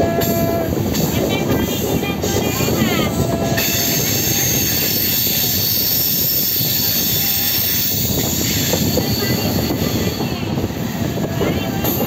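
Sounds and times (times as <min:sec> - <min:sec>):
rushing wind: 0:00.0 - 0:12.0
train wheels rumbling on rails: 0:00.0 - 0:12.0.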